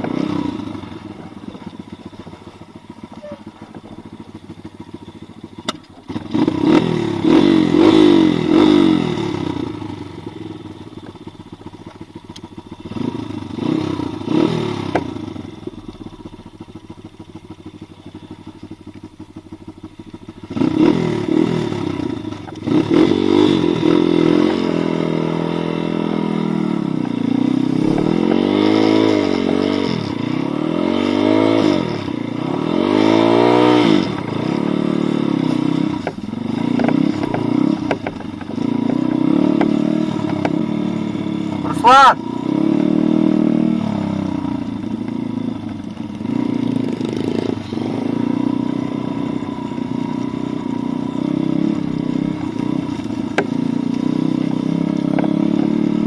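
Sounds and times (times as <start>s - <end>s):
small motorcycle engine revving: 0.0s - 56.0s.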